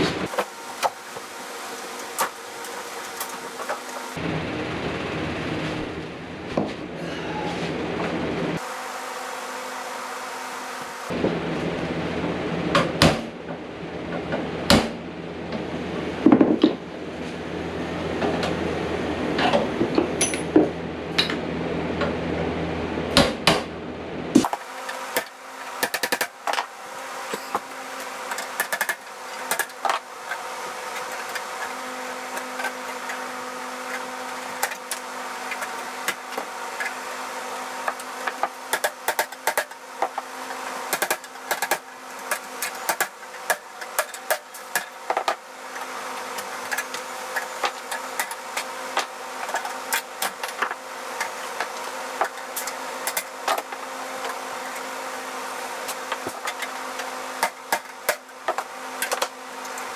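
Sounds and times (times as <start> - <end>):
steady buzzing hum: 0.0 - 59.9.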